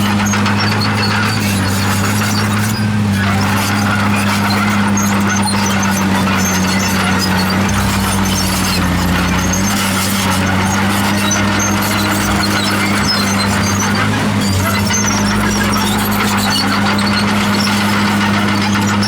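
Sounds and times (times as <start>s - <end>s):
bulldozer diesel engine running: 0.0s - 19.0s
crawler tracks squeaking: 0.0s - 19.0s.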